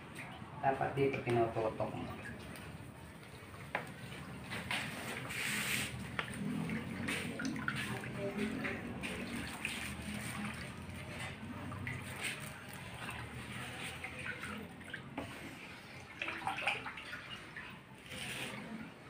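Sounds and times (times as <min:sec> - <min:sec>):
liquid sloshing and splashing: 0:01.2 - 0:19.0
wooden spatula stirring liquid: 0:02.4 - 0:19.0.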